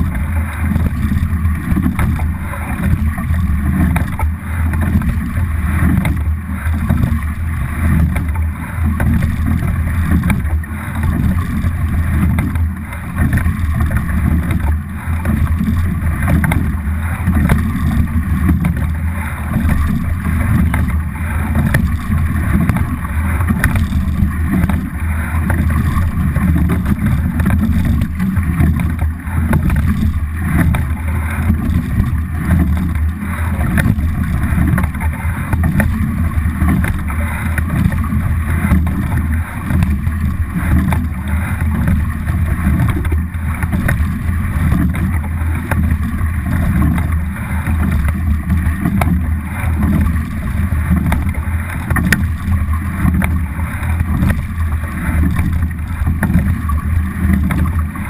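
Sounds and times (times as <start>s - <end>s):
water rushing along hull: 0.0s - 58.0s.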